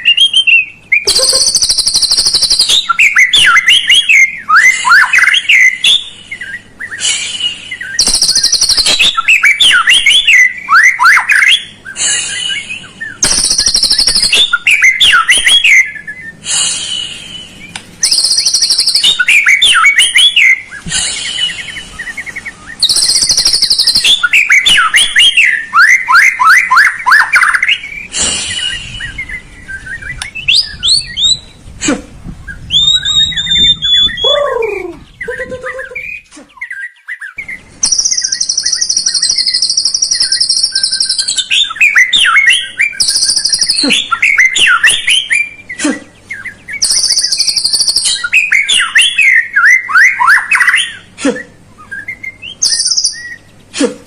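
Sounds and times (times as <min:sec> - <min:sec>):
harsh buzzy bird bursts: 0:00.0 - 0:29.9, 0:37.6 - 0:53.8
whistled songbird notes: 0:00.0 - 0:31.7, 0:32.4 - 0:53.7.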